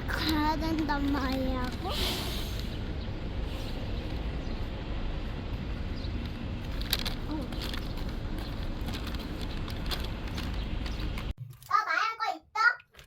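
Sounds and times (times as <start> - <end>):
low rumbling noise: 0.0 - 11.4.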